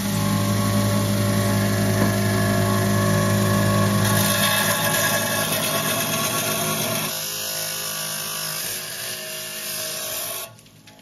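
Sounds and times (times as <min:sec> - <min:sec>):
stone-cutting saw running: 0:00.0 - 0:10.6.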